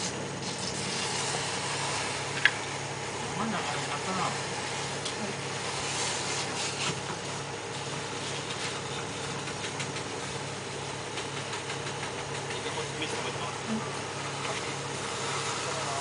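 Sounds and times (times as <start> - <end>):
engine-driven equipment humming: 0.0 - 16.0.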